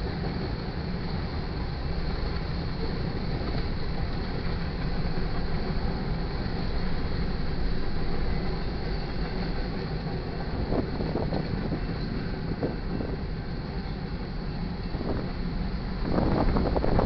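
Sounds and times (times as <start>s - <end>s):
train wheels clattering on rail: 0.0s - 17.0s.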